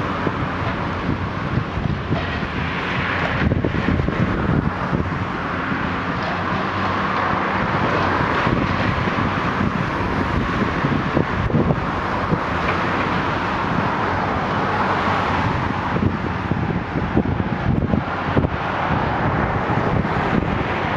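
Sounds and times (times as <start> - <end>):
diesel engine running: 0.0 - 20.9
wind on microphone: 0.0 - 20.9.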